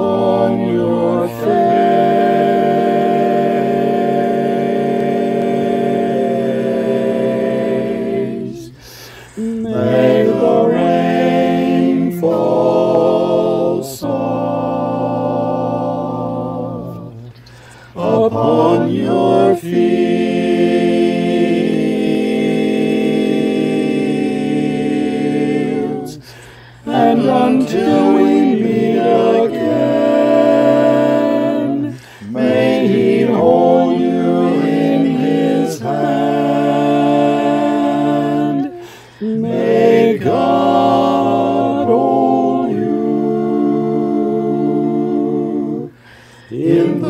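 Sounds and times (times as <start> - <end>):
vocal ensemble singing harmony: 0.0 - 47.0.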